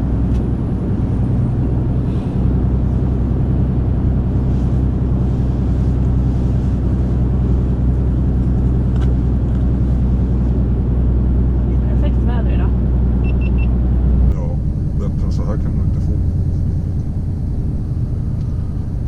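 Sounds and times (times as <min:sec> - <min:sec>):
road noise: 0:00.0 - 0:19.0
truck engine hum: 0:00.0 - 0:19.0.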